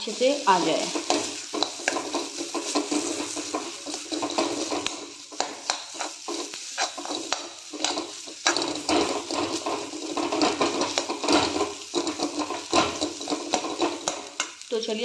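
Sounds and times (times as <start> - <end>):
metal spatula scraping a pan: 0.0 - 14.7
light sizzle: 0.0 - 15.0.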